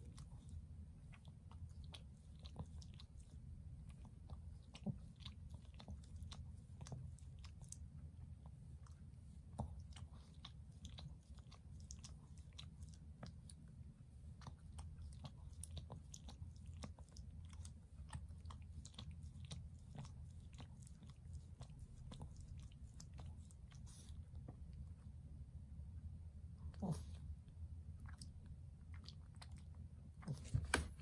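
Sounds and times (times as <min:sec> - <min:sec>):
dog licking and smacking lips: 0:00.0 - 0:25.2, 0:27.9 - 0:31.0
low steady hum: 0:00.0 - 0:31.0.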